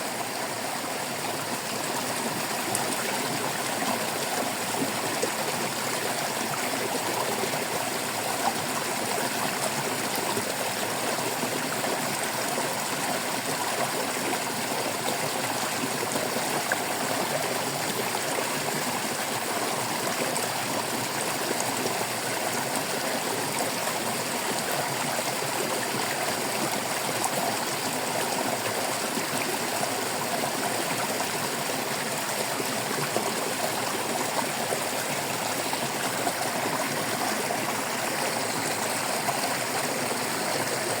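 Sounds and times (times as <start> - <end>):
stream water trickling: 0.0 - 41.0.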